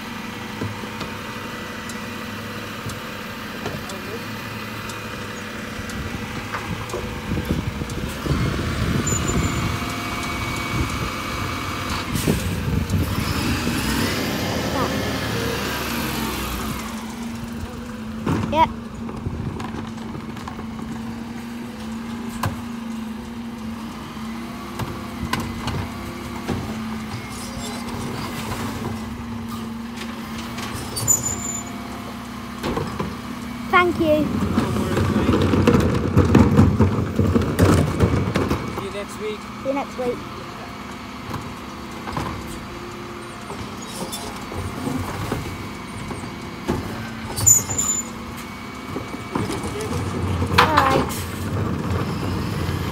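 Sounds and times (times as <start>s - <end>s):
lorry engine running: 0.0s - 52.9s.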